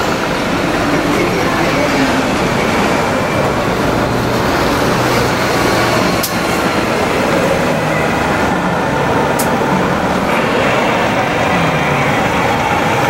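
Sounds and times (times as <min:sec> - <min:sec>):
heavy traffic engines: 0:00.0 - 0:13.0.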